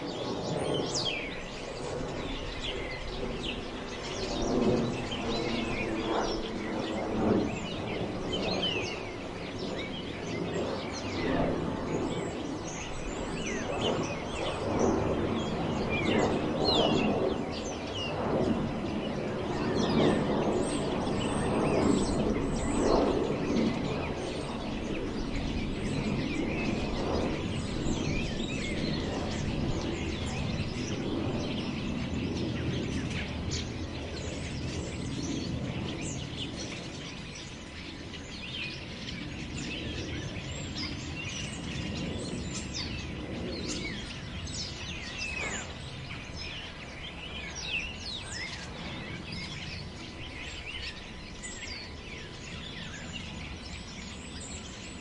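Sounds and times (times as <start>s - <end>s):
birds chirping: 0.0s - 55.0s
wind through trees: 0.0s - 55.0s.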